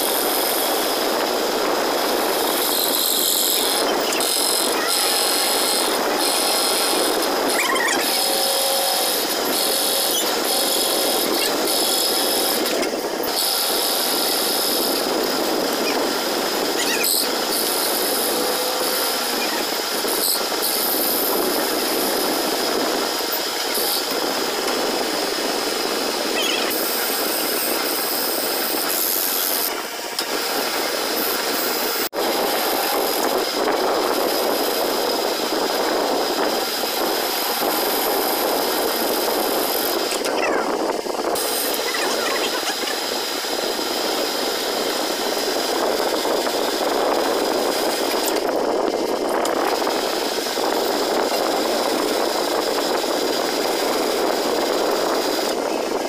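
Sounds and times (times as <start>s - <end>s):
metal lathe machining with whine: 0.0s - 56.0s.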